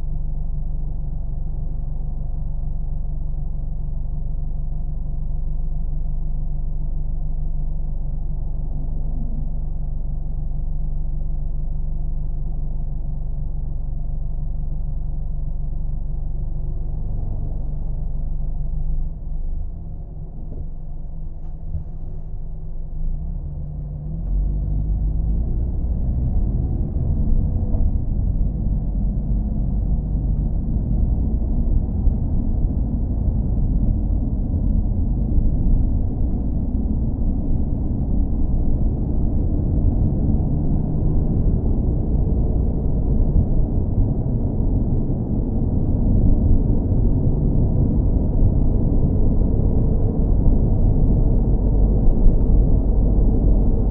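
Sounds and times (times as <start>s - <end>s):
car engine rumble: 0.0s - 53.9s.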